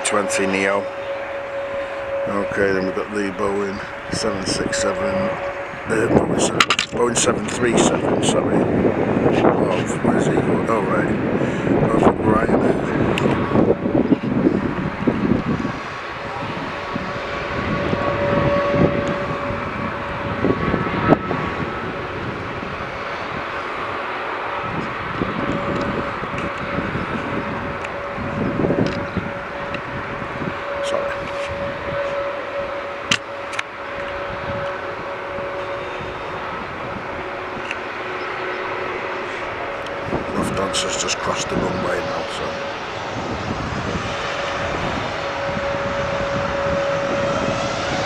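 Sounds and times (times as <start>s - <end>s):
faint engine whine: 0.0s - 48.0s
jet engines rushing: 0.0s - 48.0s.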